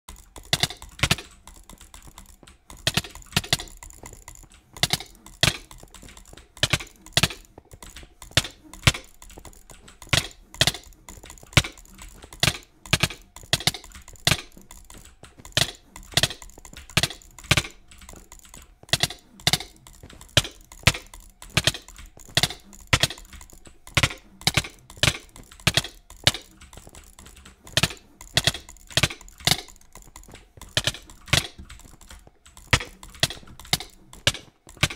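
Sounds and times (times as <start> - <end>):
clicky switches clicking: 0.1 - 34.9.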